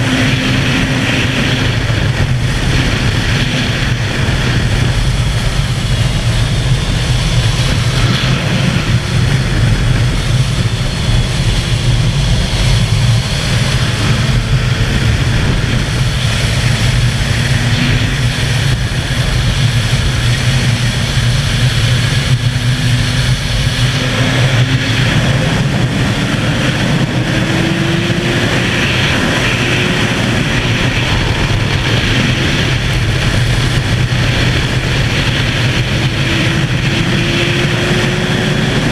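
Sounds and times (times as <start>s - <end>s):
motorcycle engine at speed: 0.0s - 38.9s
wind rush on microphone: 0.0s - 38.9s.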